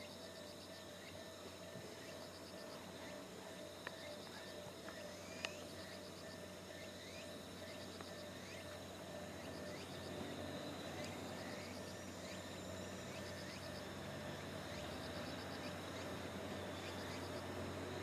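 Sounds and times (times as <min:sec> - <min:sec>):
insect chorus chirping: 0:00.0 - 0:18.0.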